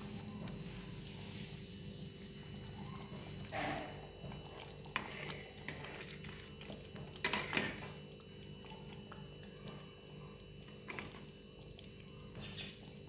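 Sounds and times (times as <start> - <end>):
gravy simmering and bubbling: 0.0 - 13.0.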